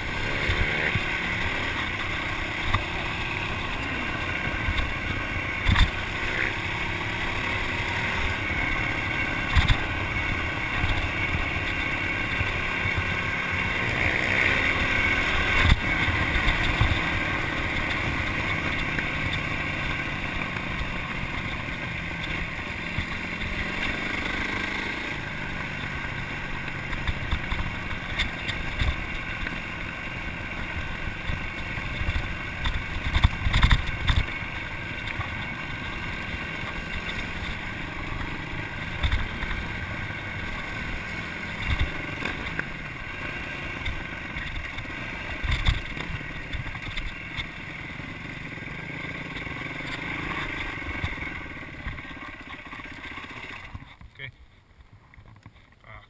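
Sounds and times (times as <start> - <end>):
dirt bike engine running: 0.0 - 55.8.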